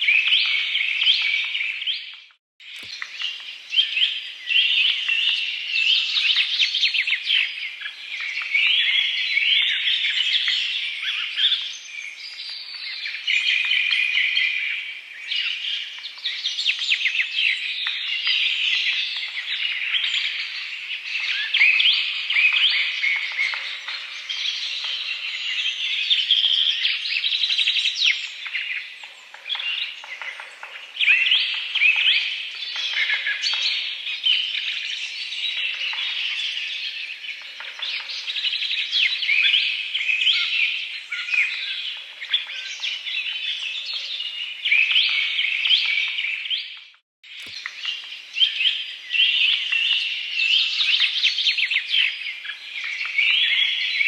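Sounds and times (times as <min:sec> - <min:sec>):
many small birds chirping: 0:00.0 - 0:54.0.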